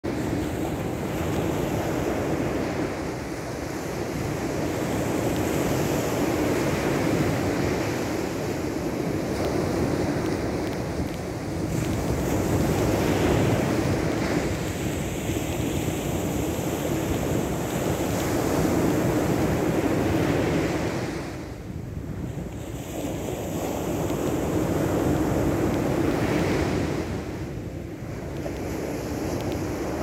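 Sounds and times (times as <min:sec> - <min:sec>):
wind buffeting microphone: 0:00.0 - 0:30.0
surf washing onto beach: 0:00.1 - 0:30.0.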